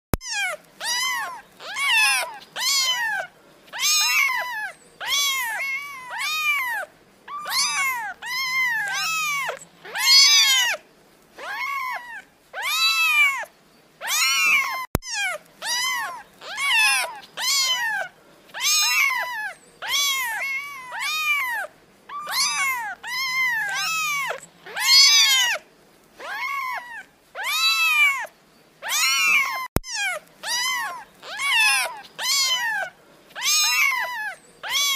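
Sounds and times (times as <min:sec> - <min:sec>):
kittens meowing: 0:00.2 - 0:10.8, 0:11.4 - 0:25.6, 0:26.2 - 0:34.9.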